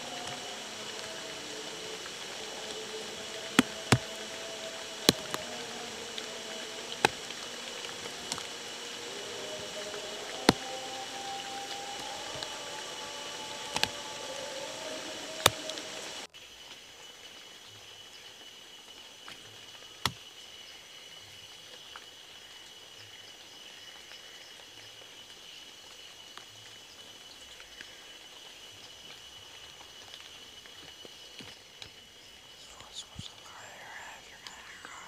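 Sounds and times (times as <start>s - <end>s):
hiss: 0.0s - 21.3s, 25.6s - 35.0s
high insect trill: 0.0s - 35.0s.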